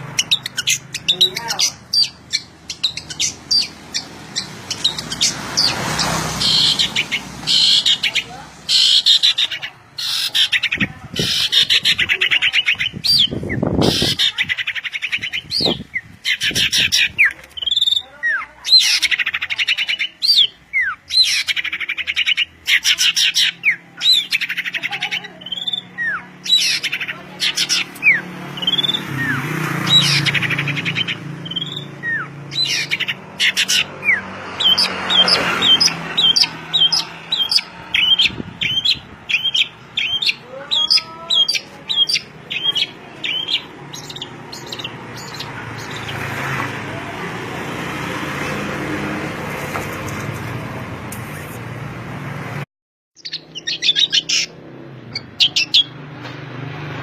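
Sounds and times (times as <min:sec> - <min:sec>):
songbird singing: 0:00.0 - 0:48.0, 0:53.2 - 0:56.0.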